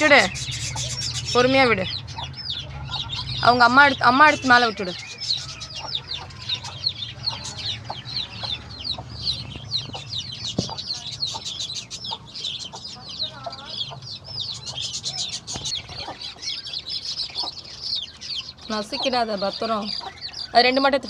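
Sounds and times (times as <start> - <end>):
chicks peeping: 0.0 - 21.0
hen clucking: 0.0 - 21.0.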